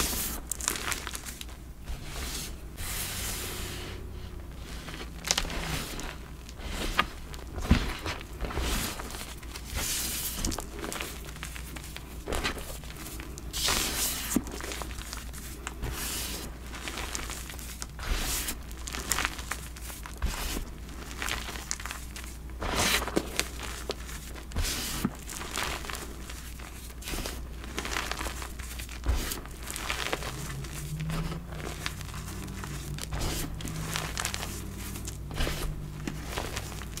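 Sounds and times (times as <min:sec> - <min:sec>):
hands crumbling chalk: 0:04.9 - 0:37.0.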